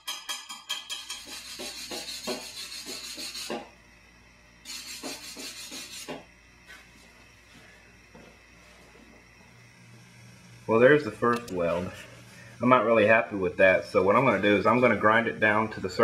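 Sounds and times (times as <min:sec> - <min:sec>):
welding arc crackling and hissing: 0:01.0 - 0:03.8, 0:04.6 - 0:07.2, 0:08.5 - 0:16.0.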